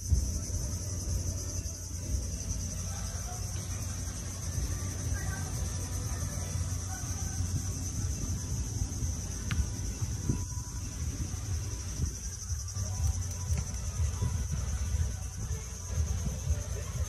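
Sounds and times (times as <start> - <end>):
continuous low rumble: 0.0 - 17.0
insects droning: 0.0 - 17.0.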